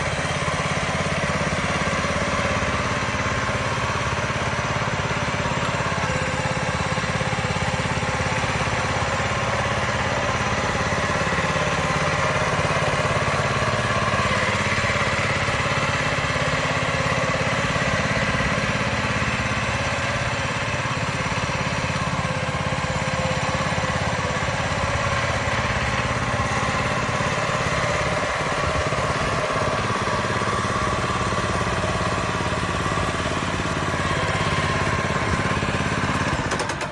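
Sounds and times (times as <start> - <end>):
engine running steadily: 0.0 - 36.9.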